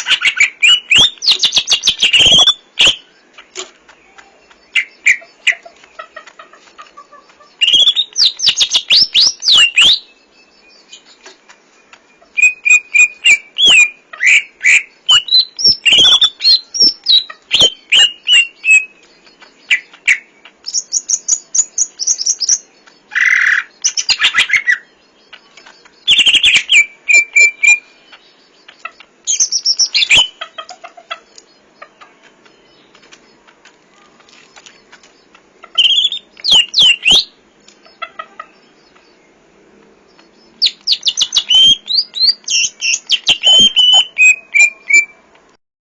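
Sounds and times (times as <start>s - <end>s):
bird singing whistled chirps: 0.0s - 3.4s, 4.0s - 5.6s, 7.4s - 30.4s, 34.5s - 39.4s, 40.1s - 45.2s.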